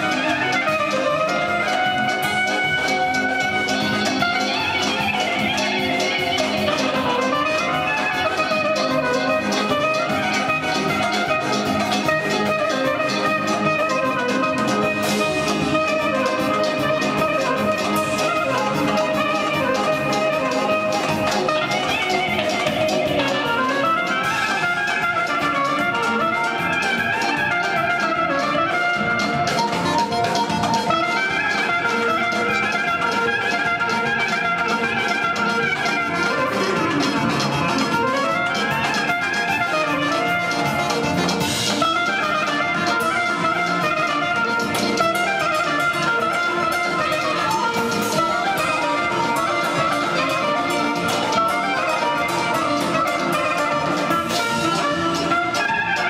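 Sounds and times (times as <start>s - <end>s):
clarinet fast runs: 0.0s - 56.0s
live band playing: 0.0s - 56.0s
steady drum beat: 0.0s - 56.0s.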